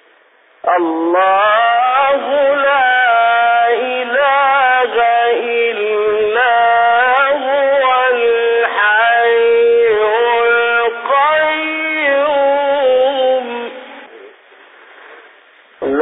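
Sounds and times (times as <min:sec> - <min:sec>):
man chanting melodically: 0:00.6 - 0:14.3, 0:15.8 - 0:16.0.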